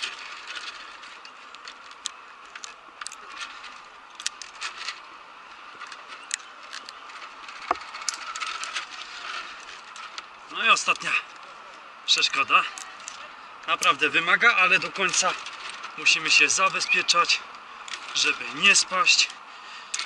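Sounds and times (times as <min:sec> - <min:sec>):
carabiners clinking on steel rungs: 0:00.0 - 0:20.0.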